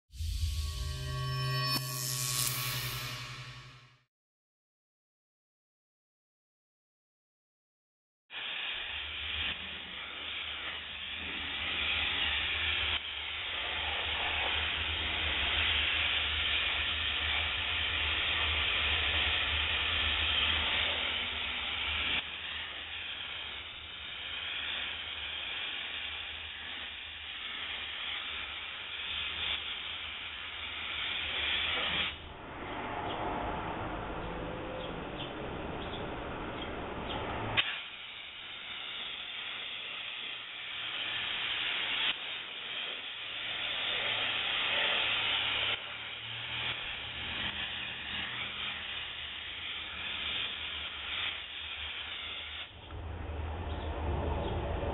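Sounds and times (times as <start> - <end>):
steam cleaner hissing: 8.3 - 34.4, 35.3 - 54.9.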